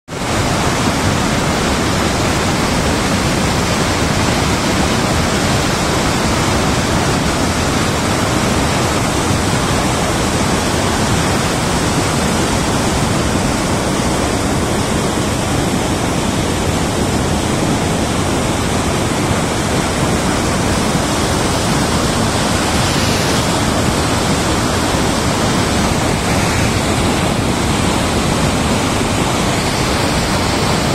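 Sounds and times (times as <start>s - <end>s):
water rushing from pipes: 0.1s - 30.9s.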